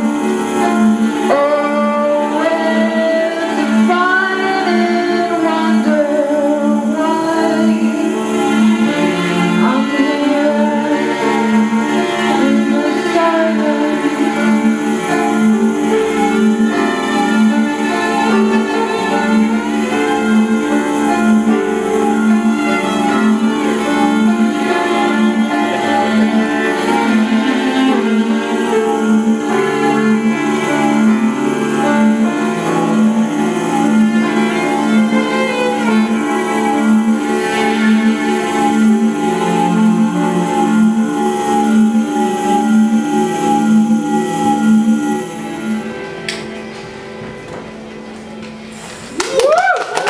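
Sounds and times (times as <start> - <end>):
small band playing slowly: 0.0 - 49.1
cello bowing long notes: 0.0 - 49.7.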